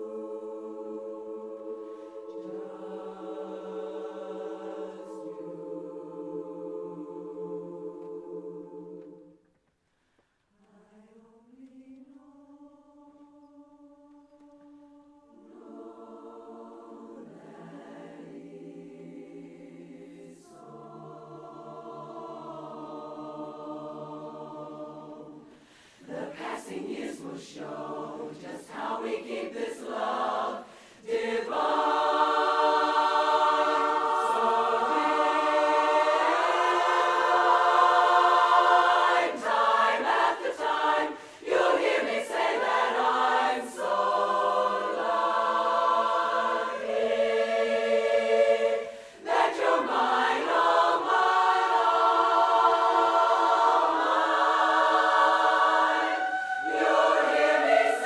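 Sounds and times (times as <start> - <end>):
women's chorus singing a cappella: 0.0 - 9.4, 10.5 - 58.0.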